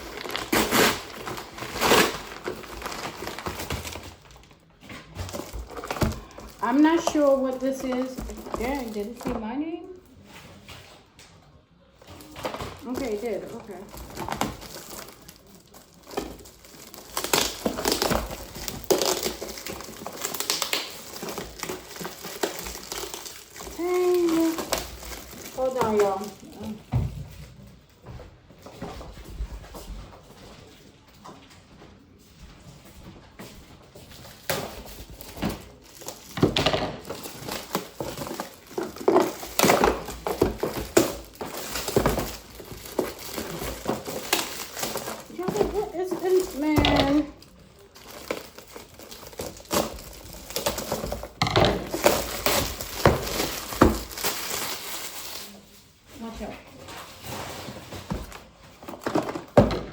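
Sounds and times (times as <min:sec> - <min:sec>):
packaging crinkling: 0:00.0 - 0:09.4, 0:12.0 - 0:27.8, 0:34.2 - 0:59.8.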